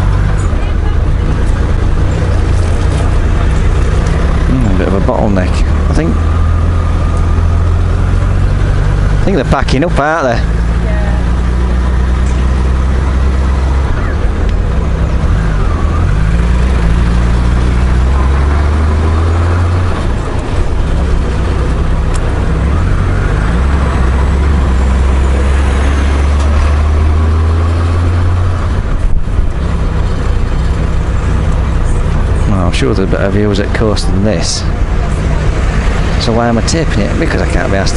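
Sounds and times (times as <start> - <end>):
motorcycle engine running: 0.0 - 37.9
wind and road noise: 0.0 - 37.9.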